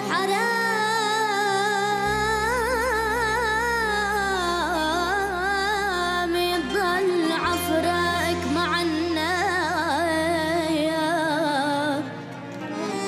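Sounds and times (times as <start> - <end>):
sustained instrumental accompaniment: 0.0 - 13.0.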